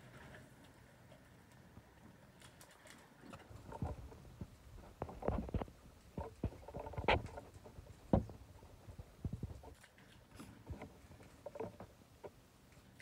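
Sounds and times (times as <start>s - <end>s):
birds pecking seed on concrete: 0.0s - 13.0s.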